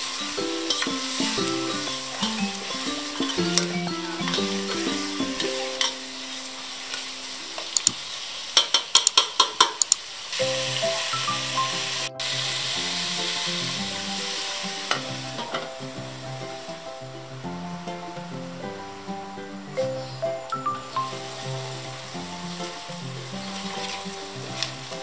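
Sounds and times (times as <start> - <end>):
background music: 0.0 - 7.8, 10.4 - 25.0
food sizzling in a pan: 0.0 - 25.0.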